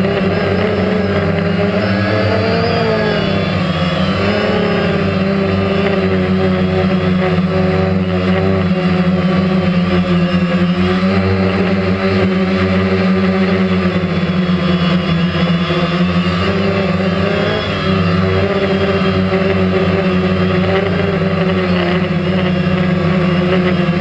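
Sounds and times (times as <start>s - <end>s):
drone propellers buzzing: 0.0s - 24.0s.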